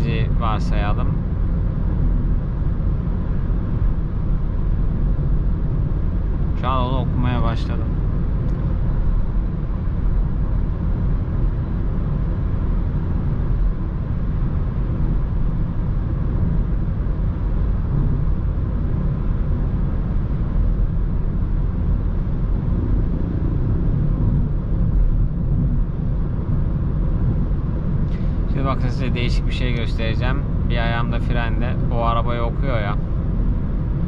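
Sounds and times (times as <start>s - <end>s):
car cabin road and wind noise: 0.0s - 34.0s.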